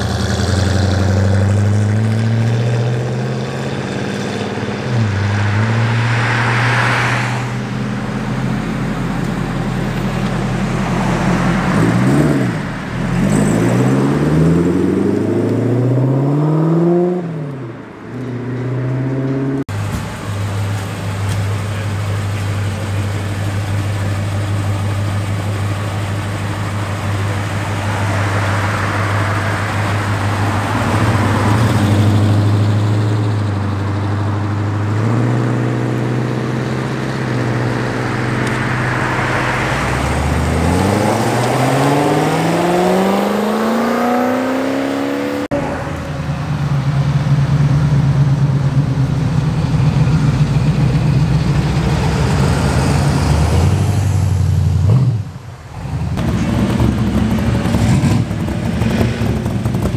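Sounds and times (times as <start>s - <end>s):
engine accelerating hard: 0.0s - 17.4s, 21.5s - 59.9s
car engine pulling away: 0.0s - 59.9s.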